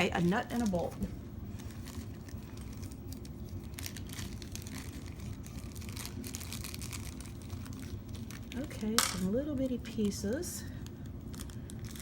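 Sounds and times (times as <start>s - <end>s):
packaging crinkling: 0.5s - 9.3s, 10.0s - 12.0s.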